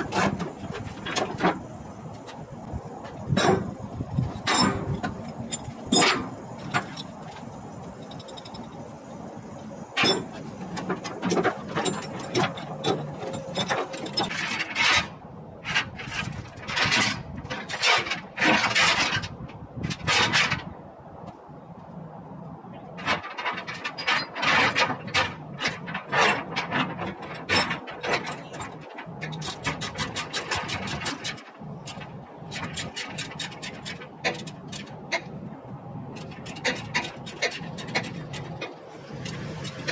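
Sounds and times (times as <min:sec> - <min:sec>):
steel chains clinking and rattling: 0:00.0 - 0:01.7, 0:03.3 - 0:19.3, 0:23.0 - 0:35.2, 0:36.1 - 0:39.9.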